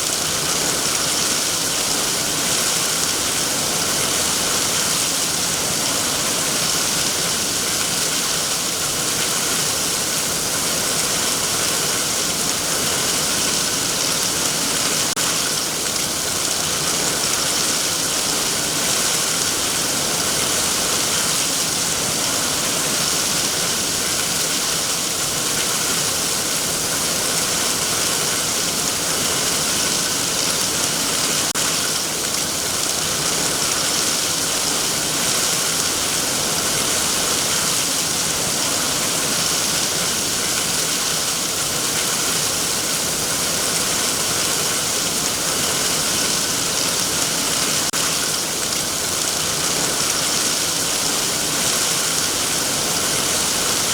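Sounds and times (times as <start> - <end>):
heavy rain on trees: 0.0 - 53.9.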